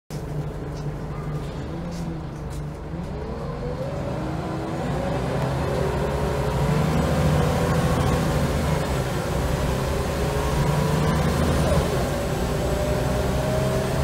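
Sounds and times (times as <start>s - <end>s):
bus diesel engine accelerating: 0.1s - 14.0s.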